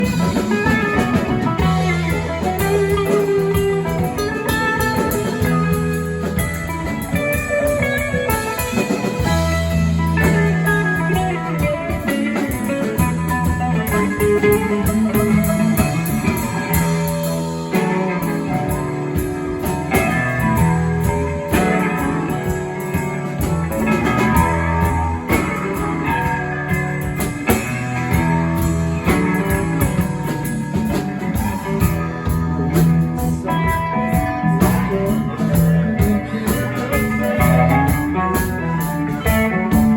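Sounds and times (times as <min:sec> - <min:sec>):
guitar-led instrumental music: 0:00.0 - 0:39.9.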